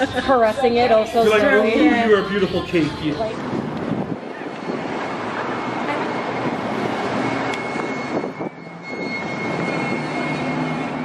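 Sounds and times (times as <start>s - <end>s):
brakes grinding high tone: 0.0s - 11.0s
city street traffic: 0.0s - 11.0s.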